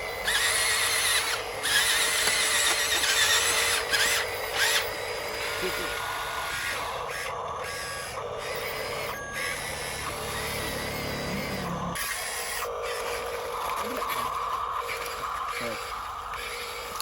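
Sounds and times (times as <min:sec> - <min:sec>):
toy truck motor whirring and whining: 0:00.0 - 0:17.0.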